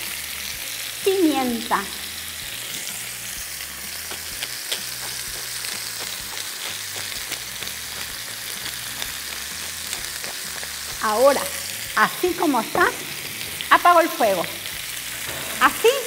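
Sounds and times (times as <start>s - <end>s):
ribs sizzling in a frying pan: 0.0s - 16.0s.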